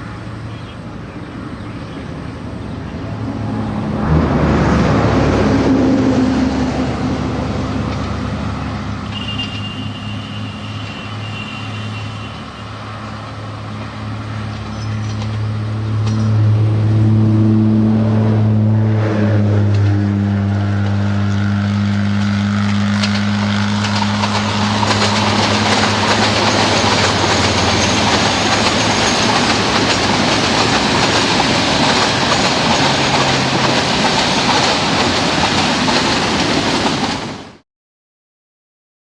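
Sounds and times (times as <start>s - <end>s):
low train engine drone: 0.0s - 37.6s
train wheels rumbling on track: 0.0s - 37.6s.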